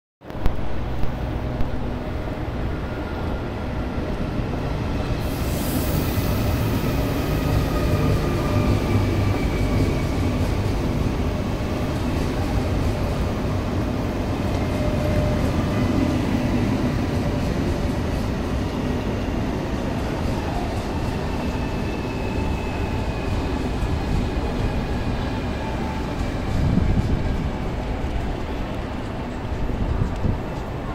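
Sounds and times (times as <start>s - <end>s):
rumble of train wheels on rail: 0.3s - 30.9s.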